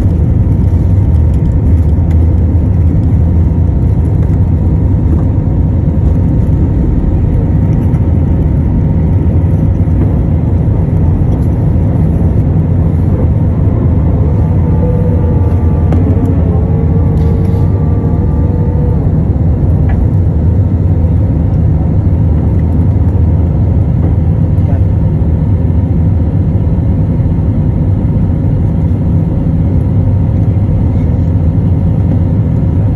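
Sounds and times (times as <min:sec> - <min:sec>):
faint whine: 0:00.0 - 0:32.9
jet engines rumbling: 0:00.0 - 0:32.9.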